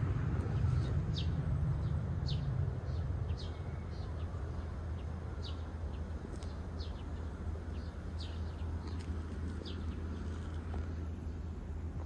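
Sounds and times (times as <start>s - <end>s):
low background rumble: 0.0s - 12.0s
small birds chirping: 0.4s - 11.6s.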